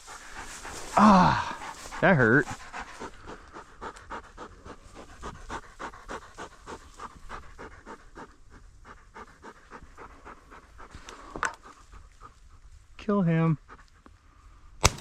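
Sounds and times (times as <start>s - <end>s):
dog panting: 0.0s - 12.9s, 13.6s - 14.2s.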